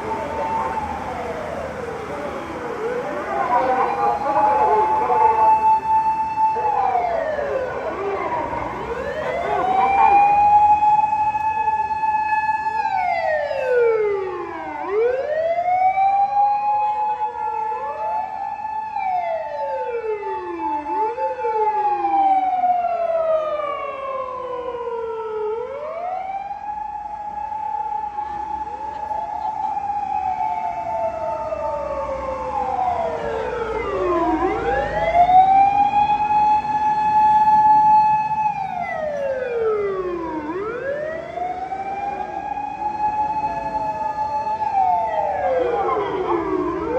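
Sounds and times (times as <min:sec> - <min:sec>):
fire engine sirens wailing: 0:00.0 - 0:46.9.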